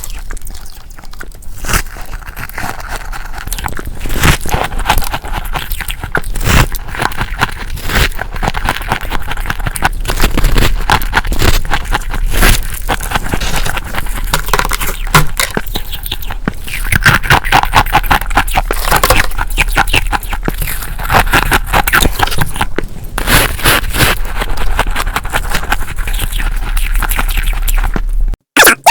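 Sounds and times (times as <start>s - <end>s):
frost being scraped and crunched: 0.0s - 28.9s.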